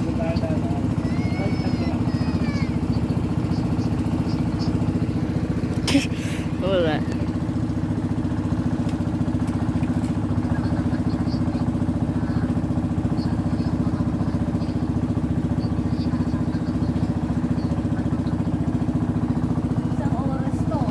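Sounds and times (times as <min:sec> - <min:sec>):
small boat engine running: 0:00.0 - 0:20.9.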